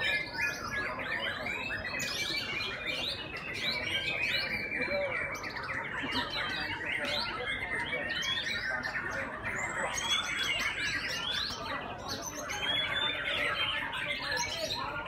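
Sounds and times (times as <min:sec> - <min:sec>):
birds singing whistles and trills: 0:00.0 - 0:15.0.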